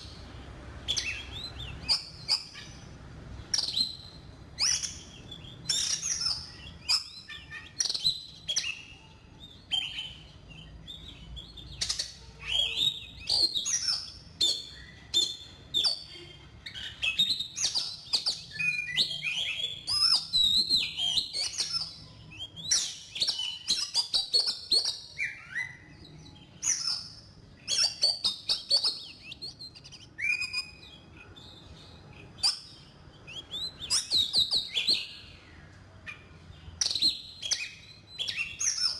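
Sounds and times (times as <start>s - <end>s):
bird singing whistles and chirps: 0.0s - 38.9s.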